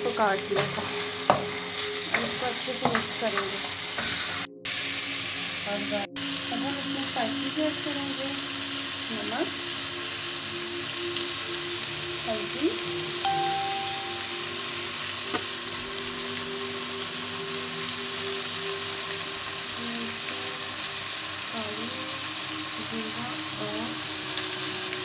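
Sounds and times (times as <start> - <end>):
chicken frying in oil: 0.0 - 25.0.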